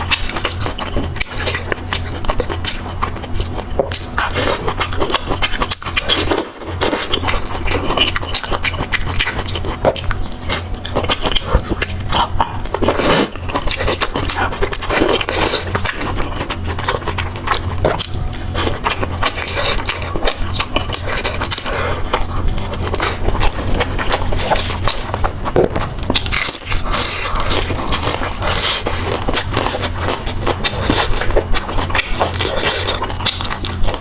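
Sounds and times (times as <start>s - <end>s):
crunchy chewing and biting: 0.0s - 34.0s
low steady hum: 0.0s - 34.0s.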